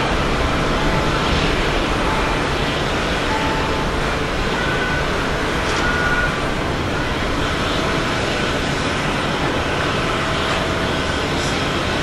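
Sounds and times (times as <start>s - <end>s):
faint whining tones: 0.0s - 11.9s
jet engines at takeoff thrust: 0.0s - 12.0s.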